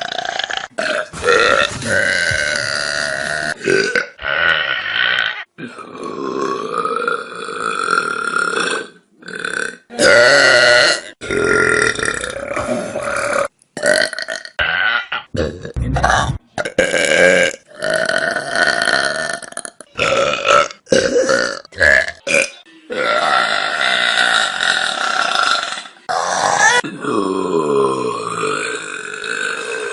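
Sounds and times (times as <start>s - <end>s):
person burping: 0.0s - 29.9s.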